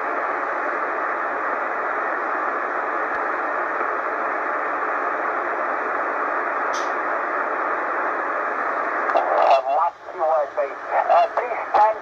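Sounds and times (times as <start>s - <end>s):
shortwave radio hiss: 0.0s - 12.0s.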